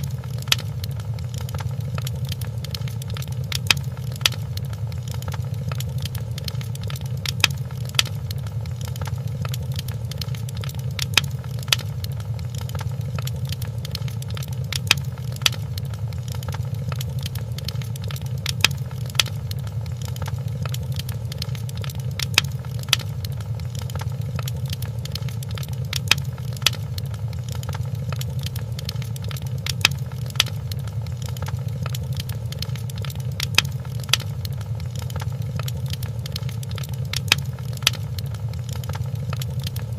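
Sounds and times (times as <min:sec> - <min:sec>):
sharp fire pops: 0:00.0 - 0:39.9
wood fire crackling: 0:00.0 - 0:39.9.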